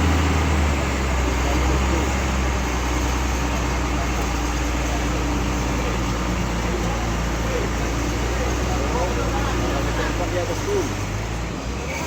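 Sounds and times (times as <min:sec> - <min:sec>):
large vehicle engine droning: 0:00.0 - 0:12.0
road noise: 0:00.0 - 0:12.0.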